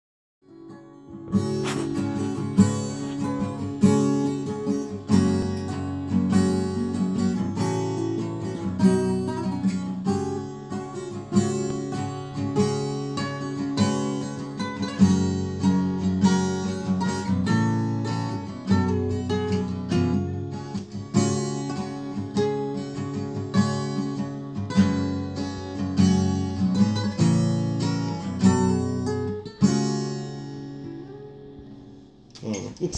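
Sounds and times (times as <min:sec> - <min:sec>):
acoustic guitars playing: 0:00.4 - 0:32.9.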